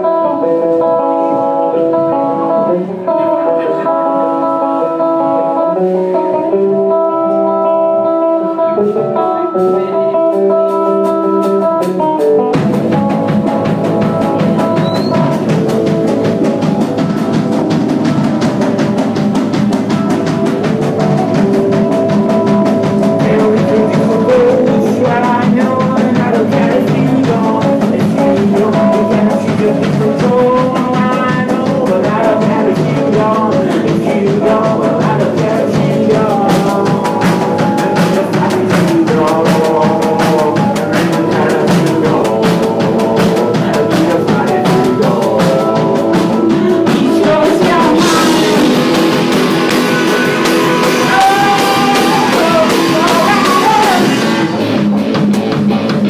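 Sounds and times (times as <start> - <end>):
drums: 0.0 - 56.0
electric guitar chords: 0.0 - 56.0
rock band playing: 0.0 - 56.0.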